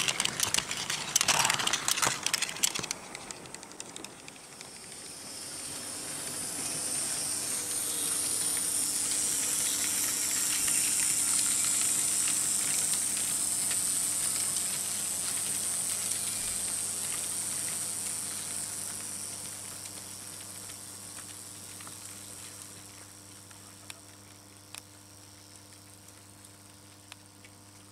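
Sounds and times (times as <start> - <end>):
model train rolling on track: 0.0 - 22.8
motor hum: 0.0 - 27.9.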